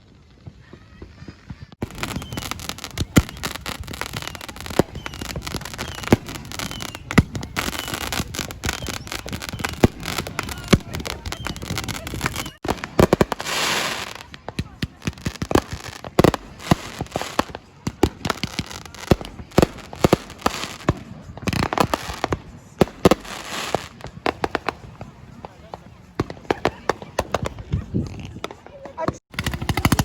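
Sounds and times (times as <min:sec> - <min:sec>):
fireworks crackling and banging: 0:00.0 - 0:30.0
fireworks hiss: 0:00.6 - 0:27.6.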